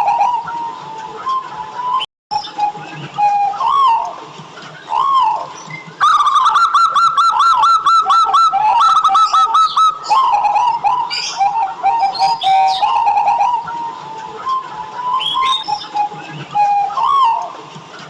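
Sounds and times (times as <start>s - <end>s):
dove cooing: 0.0s - 4.2s, 4.8s - 17.6s.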